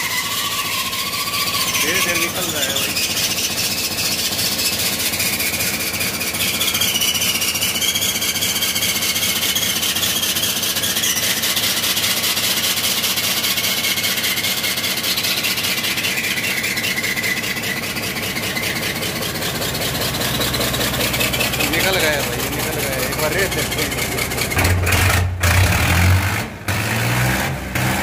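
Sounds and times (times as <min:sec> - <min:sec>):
high wavering exhaust squeal: 0:00.0 - 0:26.4
tractor diesel engine running: 0:00.0 - 0:28.0.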